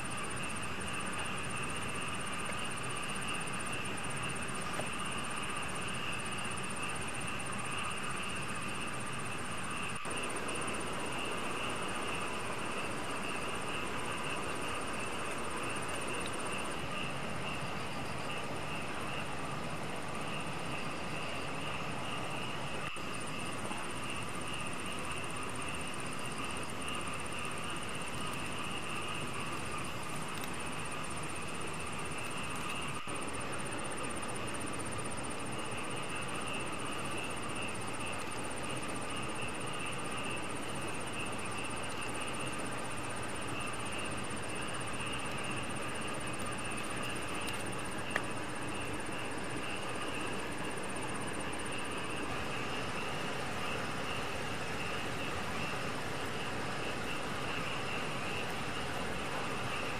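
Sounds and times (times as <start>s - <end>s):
night insects chorus: 0.0s - 59.9s.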